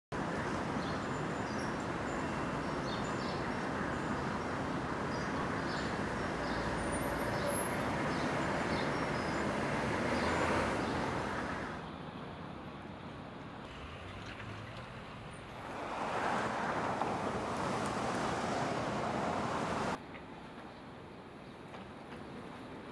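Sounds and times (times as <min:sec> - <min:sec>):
traffic noise: 0:00.1 - 0:22.9.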